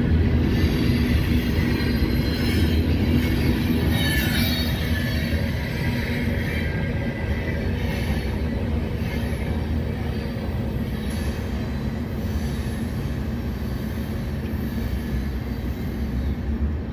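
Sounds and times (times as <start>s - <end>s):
train wheels rumbling on track: 0.0s - 16.9s
faint wheel squeal: 0.4s - 16.6s.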